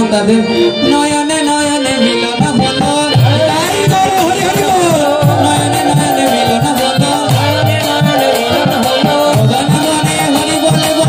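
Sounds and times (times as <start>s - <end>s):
harmonium melody: 0.0s - 11.0s
person singing: 0.0s - 11.0s.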